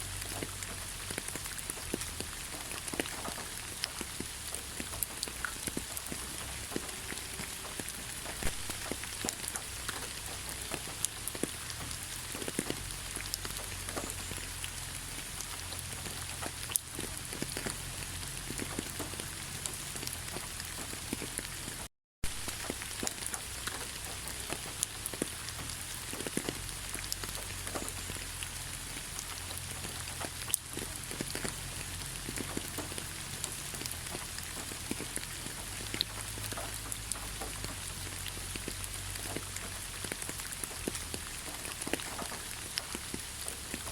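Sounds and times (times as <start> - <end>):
steady rain falling: 0.0 - 43.9
drops ticking on a surface: 0.1 - 14.6, 22.5 - 43.9.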